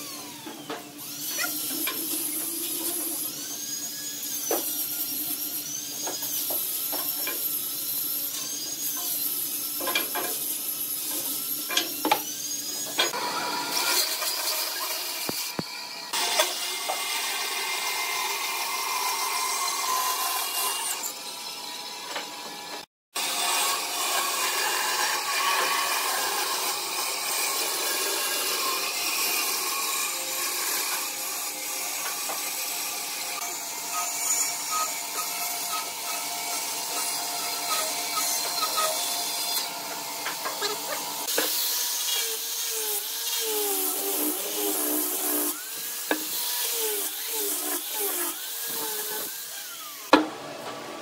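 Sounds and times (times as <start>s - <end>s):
bandsaw cutting wood: 0.0s - 51.0s.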